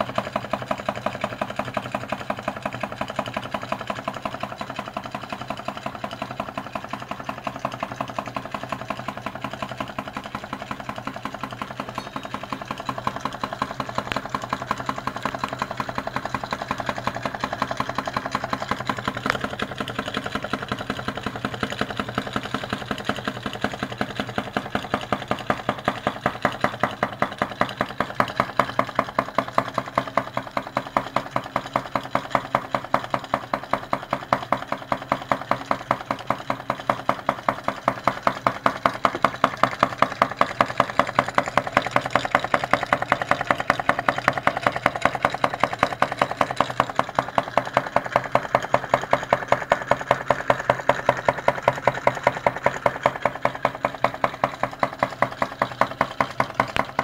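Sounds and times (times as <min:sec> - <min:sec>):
stirling engine mechanical clicking: 0:00.0 - 0:57.0.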